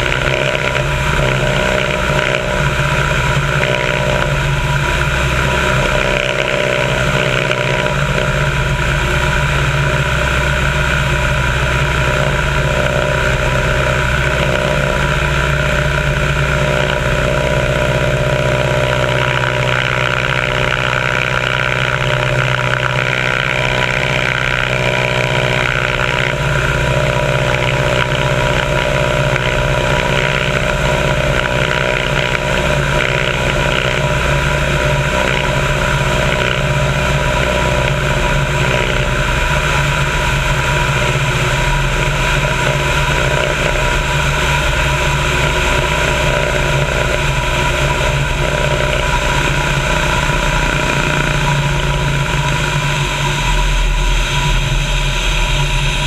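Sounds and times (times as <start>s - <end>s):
plane engine and propeller: 0.0s - 56.0s.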